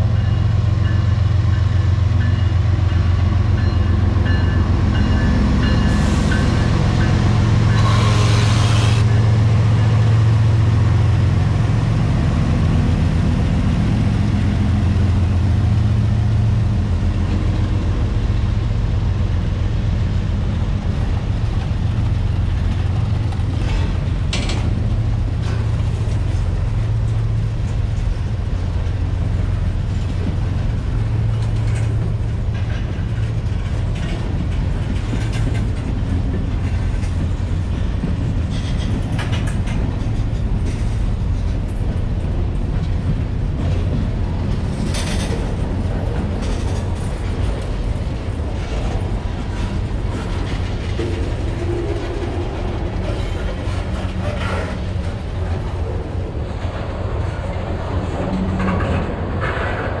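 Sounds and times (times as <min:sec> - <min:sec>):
clickety-clack over rail joints: 0:00.0 - 1:00.0
steel wheels rumbling on rails: 0:00.0 - 1:00.0.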